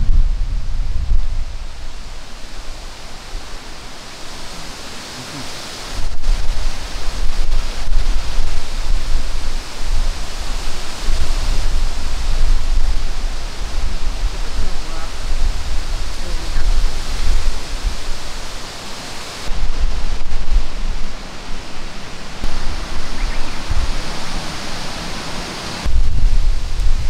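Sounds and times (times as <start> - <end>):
outdoor rushing hiss: 0.0 - 27.0
wind buffeting microphone: 0.0 - 27.0.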